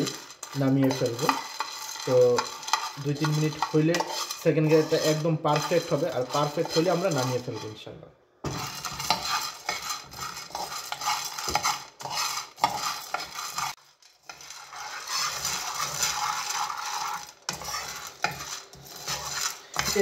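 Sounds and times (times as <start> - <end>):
coffee beans rattling in pan: 0.0 - 7.8, 8.4 - 20.0
metal spoon scraping frying pan: 0.0 - 20.0.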